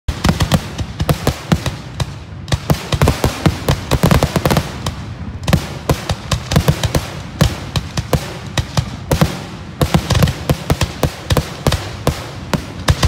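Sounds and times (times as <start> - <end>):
fireworks bursting: 0.1 - 13.0.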